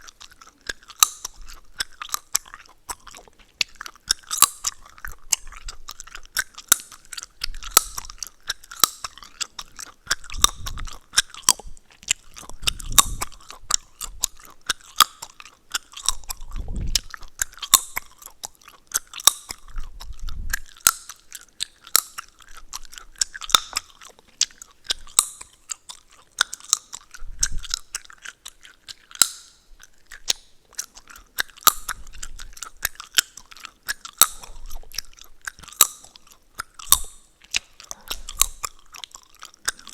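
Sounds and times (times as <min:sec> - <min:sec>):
gum chewing smacking: 0:00.0 - 0:39.9
gum cracking and clicking: 0:00.0 - 0:39.9.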